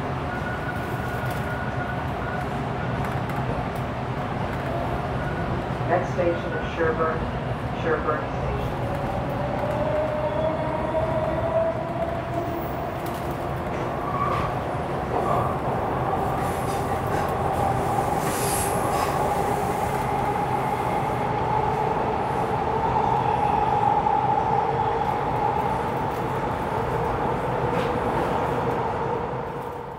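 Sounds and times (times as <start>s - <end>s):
subway car rumble with whine: 0.0s - 29.9s.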